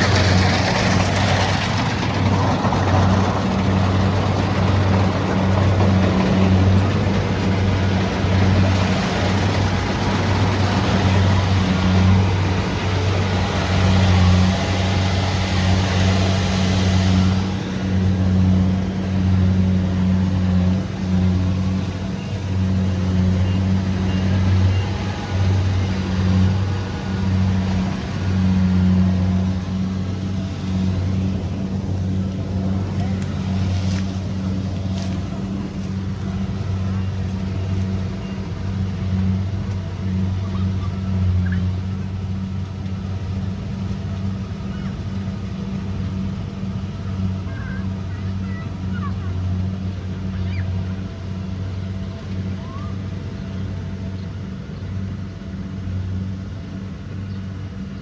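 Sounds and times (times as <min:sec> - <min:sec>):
combine harvester diesel engine humming: 0:00.0 - 0:58.0
hissing machinery noise: 0:00.0 - 0:58.0.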